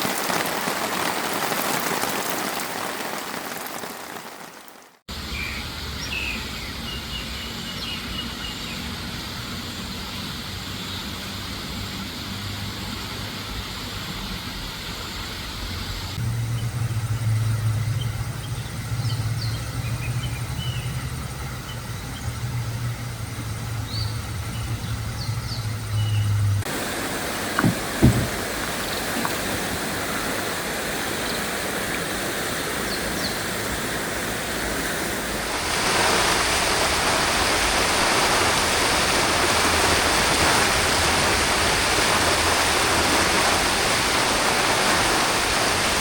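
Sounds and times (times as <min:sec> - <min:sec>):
engine humming: 0:03.8 - 0:46.0.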